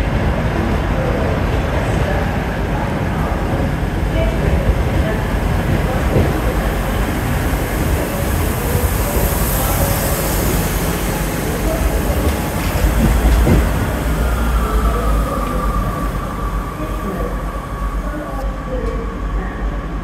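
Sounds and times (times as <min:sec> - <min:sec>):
train wheels rolling on rails: 0:00.0 - 0:19.3
diesel train engines rumbling: 0:00.0 - 0:20.0.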